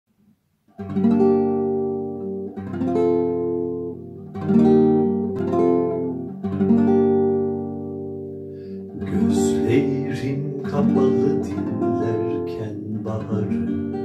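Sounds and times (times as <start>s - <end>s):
acoustic guitar chords strummed: 0.8s - 14.0s.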